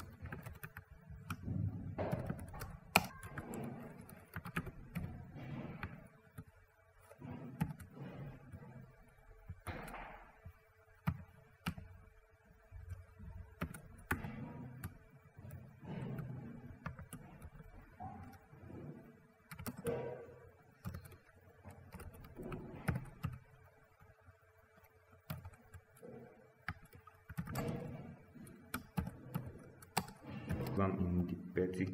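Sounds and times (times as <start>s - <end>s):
keyboard typing clicks: 0.0s - 8.7s, 9.4s - 12.0s, 12.8s - 18.6s, 19.5s - 24.1s, 24.8s - 26.0s, 26.6s - 30.9s
faint steady hum: 0.0s - 31.9s.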